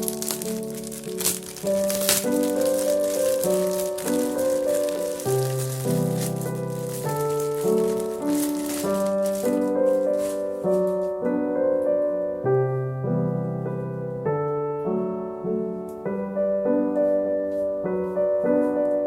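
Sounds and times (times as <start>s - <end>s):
gentle solo piano piece: 0.0s - 19.0s.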